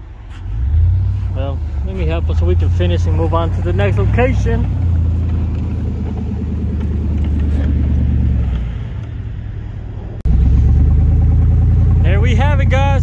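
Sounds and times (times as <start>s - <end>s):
loud engine sound: 0.4s - 13.0s
pickup truck engine running: 0.4s - 13.0s.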